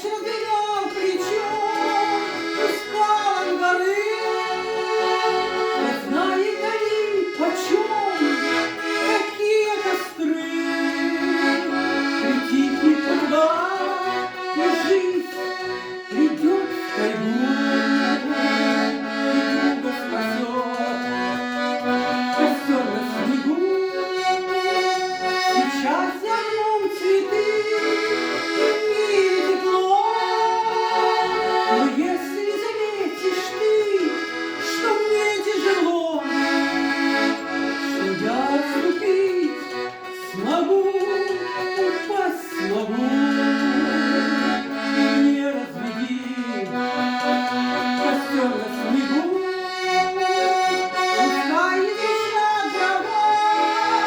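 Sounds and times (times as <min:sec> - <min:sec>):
accordion melody: 0:00.0 - 0:54.0.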